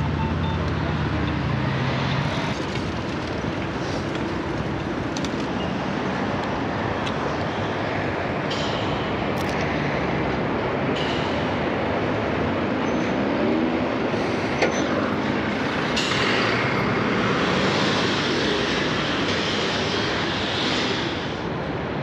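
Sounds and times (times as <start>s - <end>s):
traffic and rail vehicle noise: 0.0s - 22.0s.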